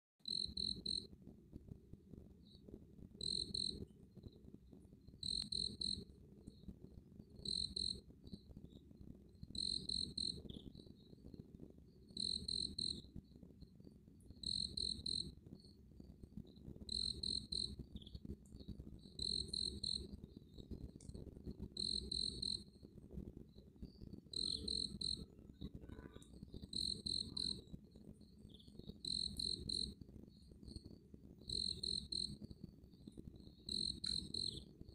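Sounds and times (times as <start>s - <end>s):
cricket chirping: 0.2s - 1.2s, 2.4s - 34.9s.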